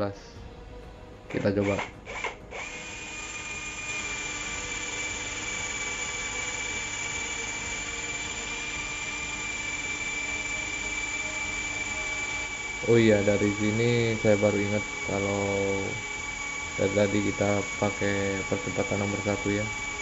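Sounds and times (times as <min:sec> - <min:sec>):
drill boring into wood: 0:01.3 - 0:20.0.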